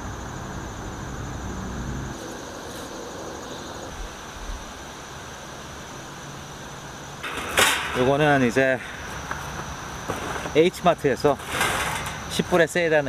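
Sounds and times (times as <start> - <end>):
even outdoor hiss: 0.0 - 13.0
high insect drone: 0.0 - 13.0.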